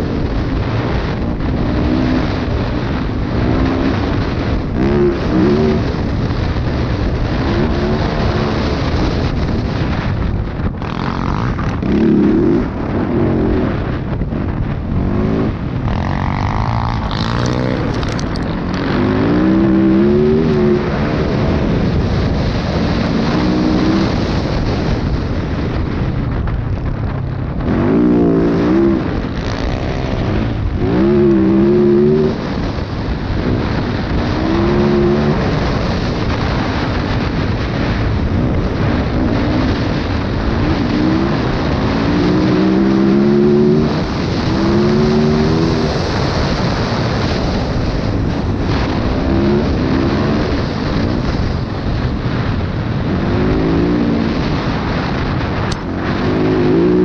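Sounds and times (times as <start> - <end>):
dirt bike engine revving: 0.0 - 26.4, 27.5 - 57.0
wind rush: 0.0 - 57.0.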